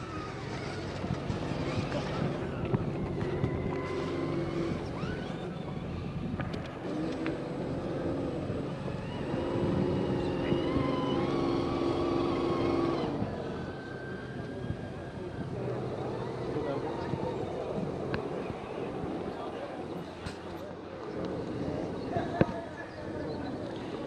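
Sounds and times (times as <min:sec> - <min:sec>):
motors humming with high whine: 0:00.0 - 0:24.0.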